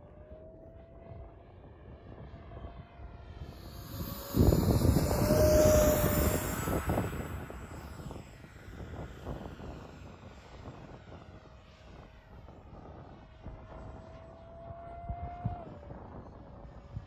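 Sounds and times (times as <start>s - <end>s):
model jet ducted fan whining: 0.1s - 17.0s.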